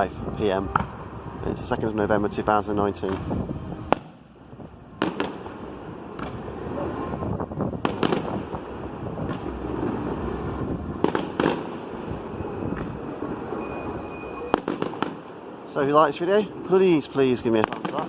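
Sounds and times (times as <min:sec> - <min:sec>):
fireworks bangs: 0:00.0 - 0:15.9, 0:16.5 - 0:18.0
continuous background noise: 0:00.0 - 0:18.0.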